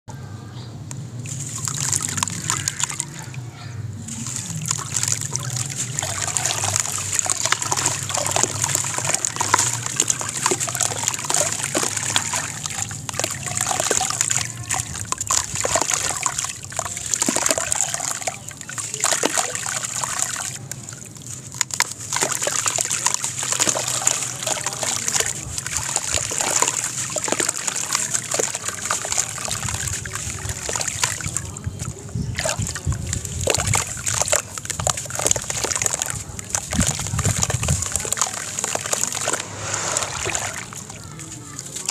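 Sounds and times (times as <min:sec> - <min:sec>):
water sloshing: 0:01.1 - 0:41.9
grit splashing into water: 0:01.2 - 0:03.4, 0:04.0 - 0:41.9.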